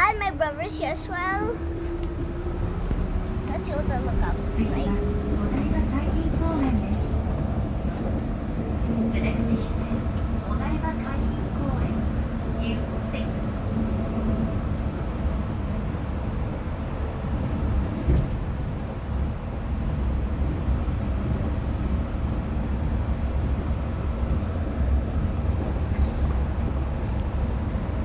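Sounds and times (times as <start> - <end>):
train running low rumble: 0.0 - 28.0.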